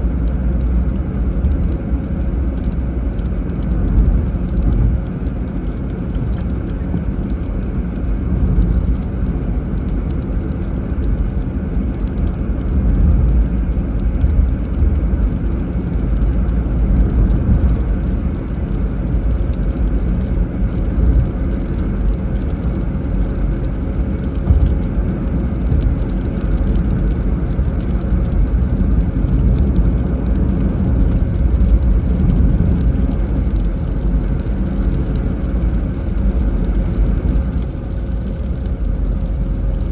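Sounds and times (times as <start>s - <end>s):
car engine and tyres rumbling: 0.0s - 39.9s
rain and tyre spray hiss: 0.0s - 39.9s.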